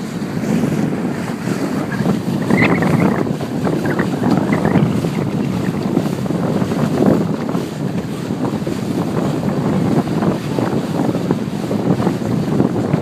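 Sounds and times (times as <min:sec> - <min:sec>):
water rushing along boat hull: 0:00.0 - 0:13.0
water slapping: 0:00.0 - 0:13.0
wind buffeting microphone: 0:00.0 - 0:13.0.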